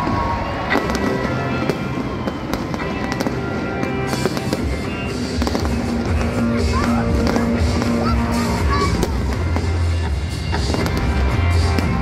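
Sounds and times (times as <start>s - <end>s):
fireworks cracking: 0.0s - 12.0s
loud music with held notes: 0.0s - 12.0s.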